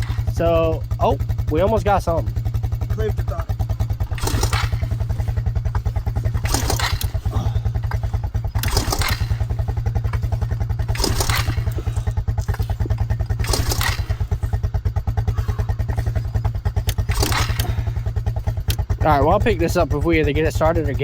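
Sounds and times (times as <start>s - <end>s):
engine idling: 0.0s - 21.0s
engine turning over: 0.0s - 21.0s
recoil starter pull rasp: 0.0s - 21.0s.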